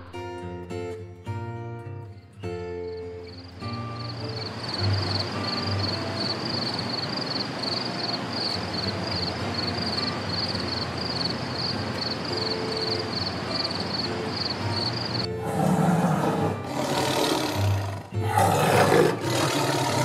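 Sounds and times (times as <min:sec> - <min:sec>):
outdoor hiss: 0:02.8 - 0:20.0.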